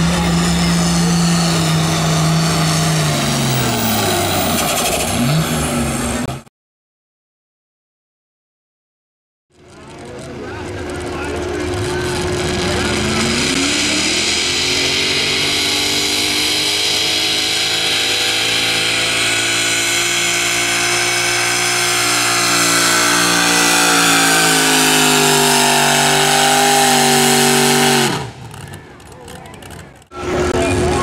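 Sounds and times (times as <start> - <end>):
truck engine at full throttle: 0.0 - 6.5, 9.5 - 31.0.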